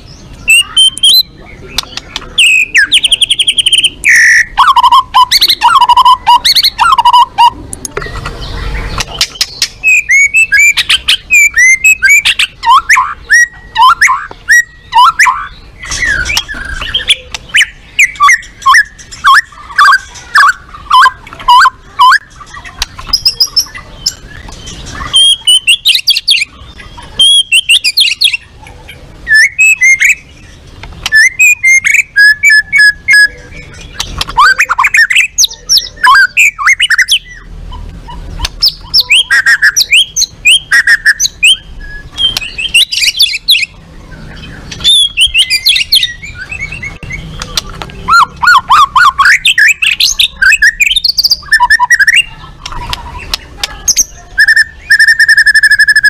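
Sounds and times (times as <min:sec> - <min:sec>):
bird singing whistles and trills: 0:00.0 - 0:07.6, 0:08.4 - 0:28.5, 0:29.2 - 0:56.0.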